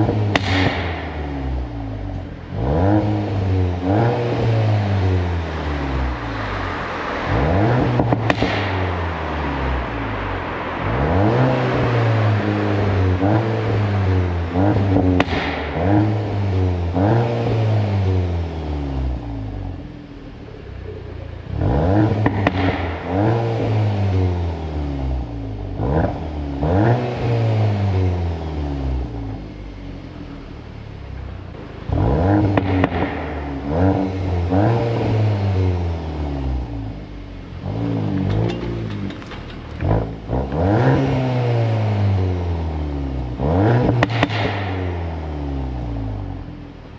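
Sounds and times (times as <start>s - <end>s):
car engine accelerating through gears: 0.0s - 46.9s
exhaust cracks: 0.0s - 46.9s.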